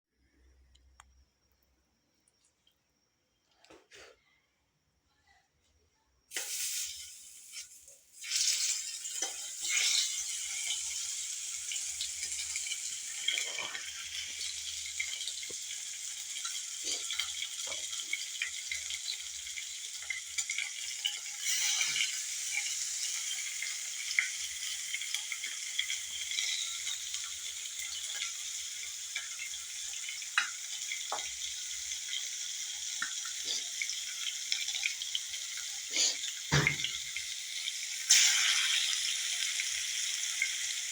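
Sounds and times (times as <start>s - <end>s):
chicken frying in hot oil: 6.3s - 40.9s.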